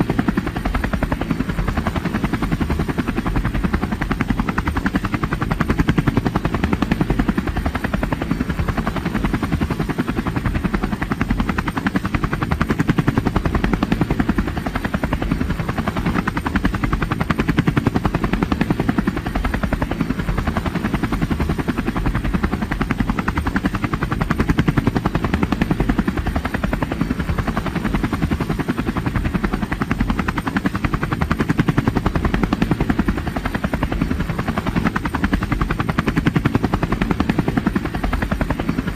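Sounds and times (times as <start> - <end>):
helicopter rotor chopping: 0.0 - 38.9.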